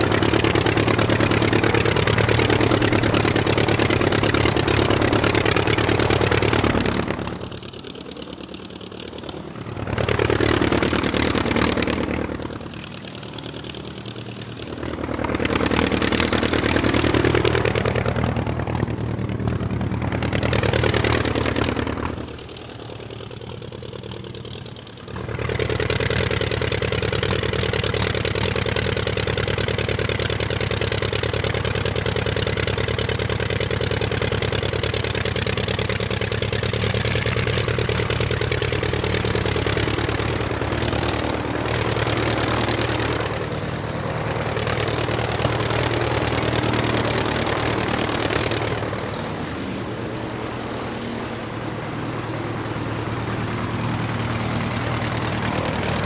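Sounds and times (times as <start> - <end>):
aircraft engine throttling: 0.0 - 56.0.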